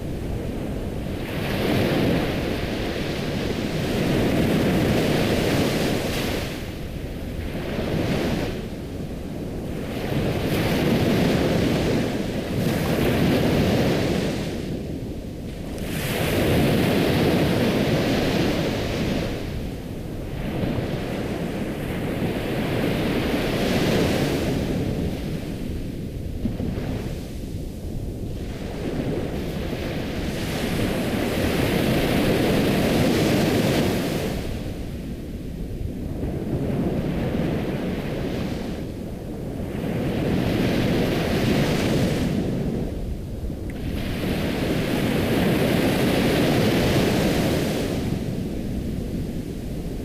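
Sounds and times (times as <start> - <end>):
ocean waves washing: 0.0 - 50.0.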